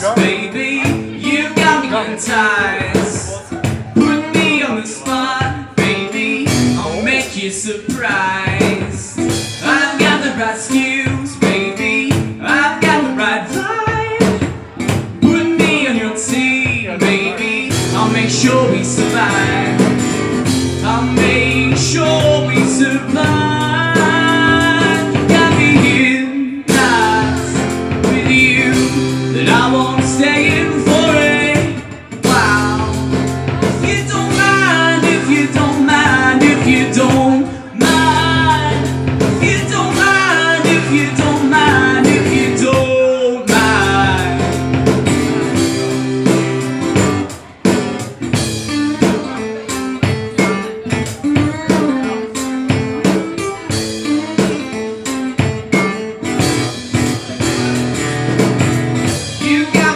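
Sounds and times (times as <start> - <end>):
person singing: 0.0 - 59.9
strummed acoustic guitar: 0.0 - 59.9.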